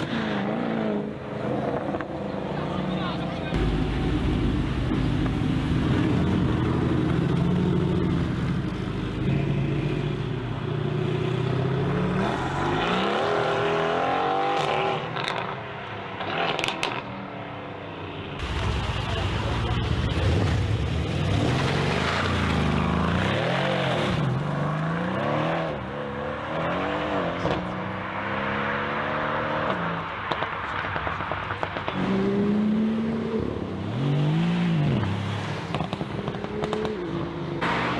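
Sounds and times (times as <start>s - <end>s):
car engines revving: 0.0s - 15.6s, 18.4s - 37.9s.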